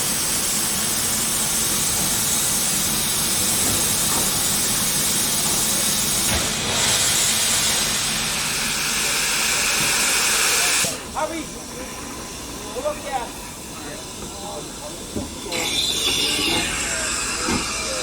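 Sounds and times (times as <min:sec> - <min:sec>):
steam locomotive venting steam: 0:00.0 - 0:18.0.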